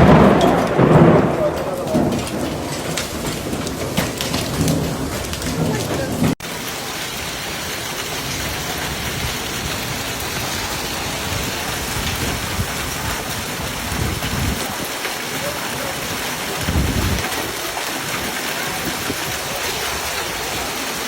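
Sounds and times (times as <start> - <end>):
hailstones splashing into pool: 0.0 - 21.0
heavy hail and rain: 0.0 - 21.0.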